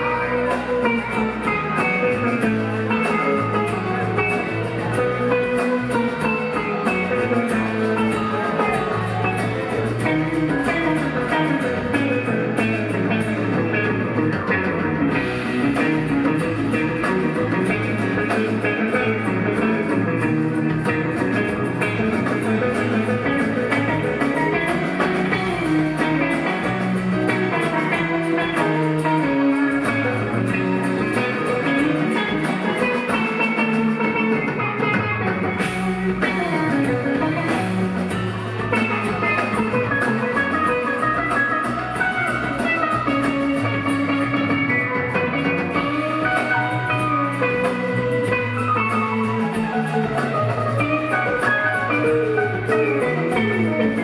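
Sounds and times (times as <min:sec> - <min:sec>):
lead guitar melodic lines: 0:00.0 - 0:54.0
rock band playing: 0:00.0 - 0:54.0.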